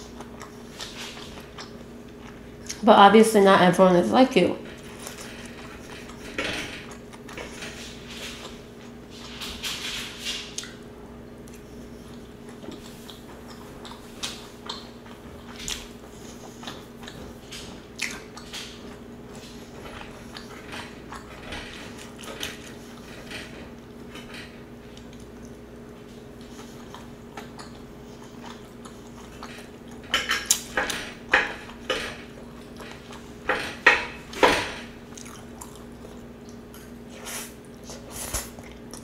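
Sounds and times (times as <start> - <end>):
chewing and mouth sounds: 0.0 - 2.8, 4.8 - 9.4, 10.4 - 23.1, 24.9 - 33.4, 35.1 - 39.0
faint steady hum: 0.0 - 39.0.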